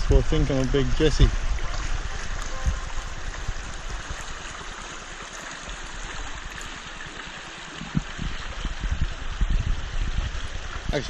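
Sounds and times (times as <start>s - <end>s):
creek rushing over rocks: 0.0s - 11.0s.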